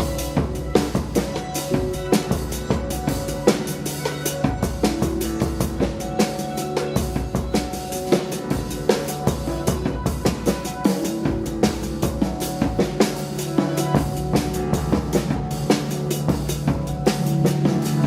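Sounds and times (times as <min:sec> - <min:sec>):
busy drum kit: 0:00.0 - 0:18.0
live band playing: 0:00.0 - 0:18.0.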